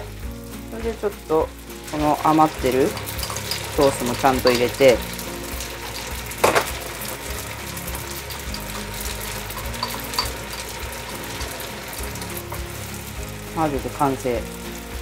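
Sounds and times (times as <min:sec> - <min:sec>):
spaghetti sizzling in a pan: 0:00.0 - 0:15.0.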